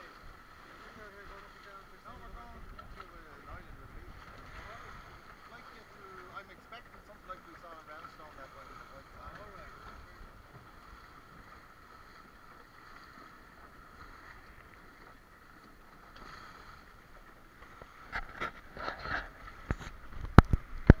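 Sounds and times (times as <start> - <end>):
waves slapping the bow: 0.0 - 21.0.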